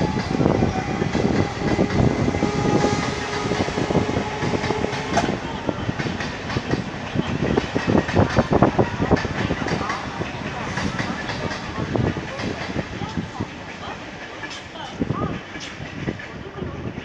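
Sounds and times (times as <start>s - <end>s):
train wheels clattering over rails: 0.0s - 17.0s.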